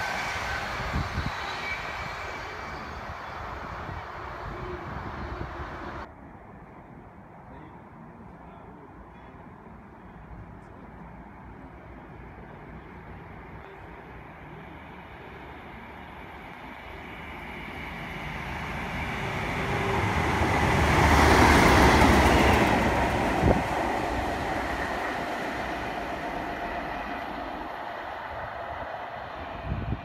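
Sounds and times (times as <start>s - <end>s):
diesel locomotive engine passing: 0.0s - 6.1s, 10.1s - 30.0s.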